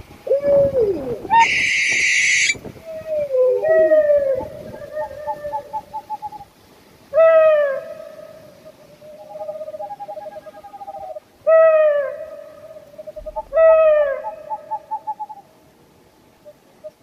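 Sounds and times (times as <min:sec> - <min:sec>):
owl calling: 0:00.3 - 0:06.5, 0:07.1 - 0:15.5.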